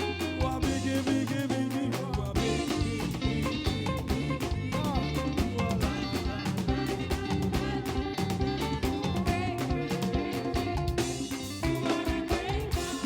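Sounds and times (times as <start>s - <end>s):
gospel band playing: 0.0s - 13.0s
person singing: 0.0s - 13.0s.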